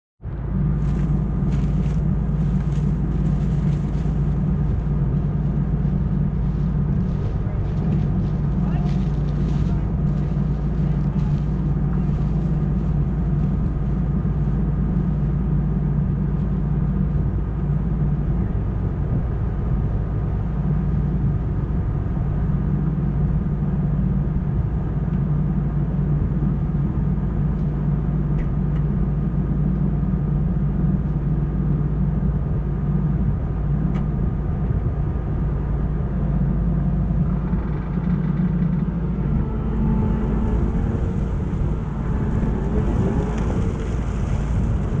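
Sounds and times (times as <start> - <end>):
harvest machinery engine drone: 0.2 - 45.0.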